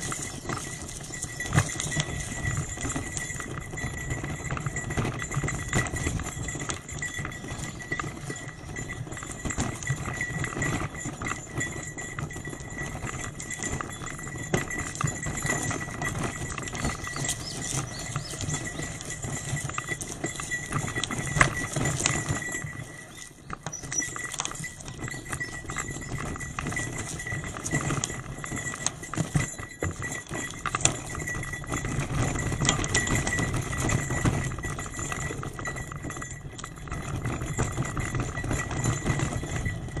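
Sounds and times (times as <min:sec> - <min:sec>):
bicycle rattling and clicking: 0:00.0 - 0:40.0.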